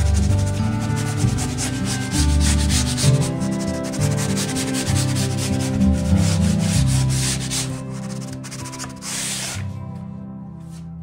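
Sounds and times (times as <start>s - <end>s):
scratchy rubbing on wood: 0.0s - 9.6s
background music: 0.0s - 11.0s.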